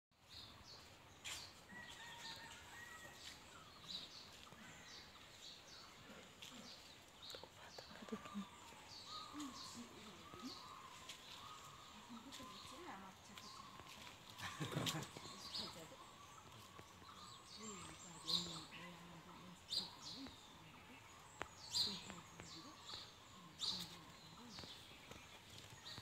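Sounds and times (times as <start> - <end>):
small birds chirping: 0.1 - 26.0.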